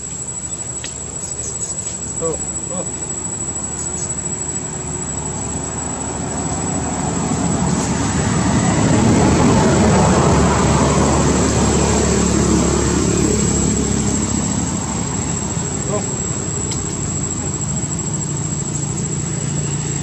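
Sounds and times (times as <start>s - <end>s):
distant engine rumble: 0.0s - 20.0s
high-pitched insect drone: 0.0s - 20.0s.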